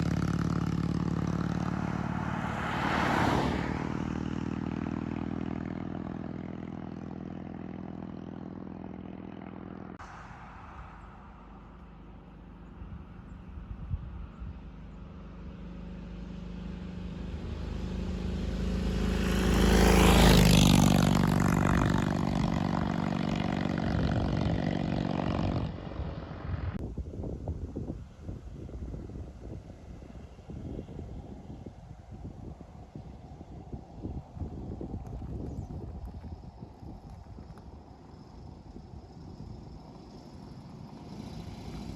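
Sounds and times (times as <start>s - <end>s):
motorcycle engine running: 0.0s - 10.0s, 11.6s - 26.8s, 32.2s - 41.9s.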